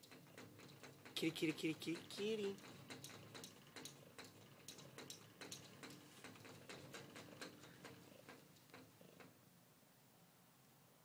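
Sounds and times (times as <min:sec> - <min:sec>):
cat claws tapping on mirror: 0:00.0 - 0:09.3.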